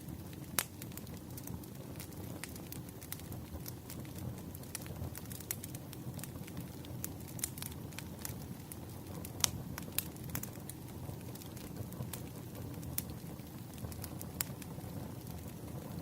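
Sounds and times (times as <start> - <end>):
campfire flame rumbling: 0.0 - 16.0
wood crackling and popping: 0.0 - 16.0.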